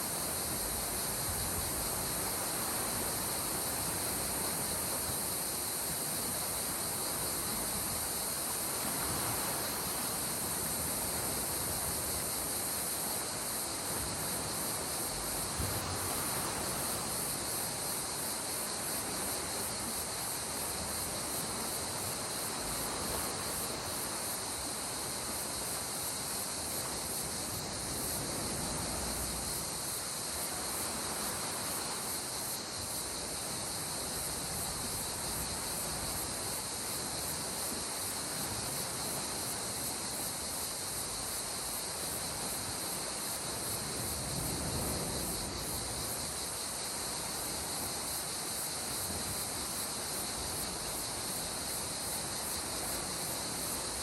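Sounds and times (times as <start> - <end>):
insects chirping: 0.0 - 54.0
sea waves washing ashore: 0.0 - 54.0.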